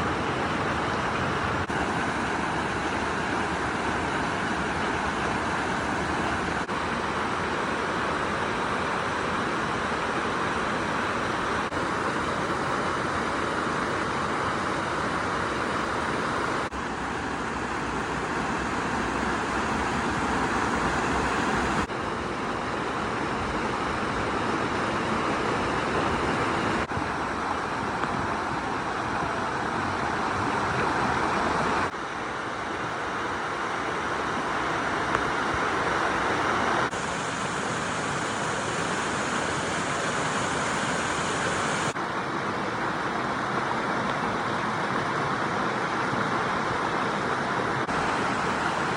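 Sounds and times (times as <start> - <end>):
stream rushing over rocks: 0.0 - 48.9.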